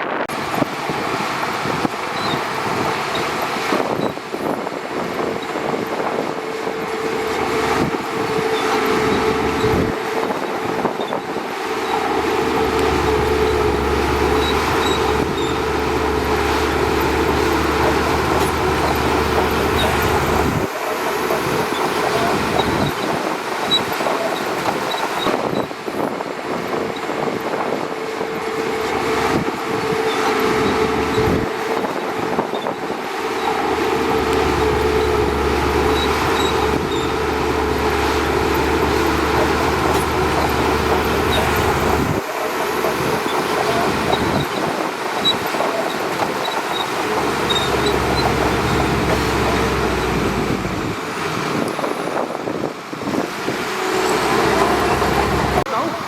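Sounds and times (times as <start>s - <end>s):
bulldozer engine hum: 0.1s - 56.0s.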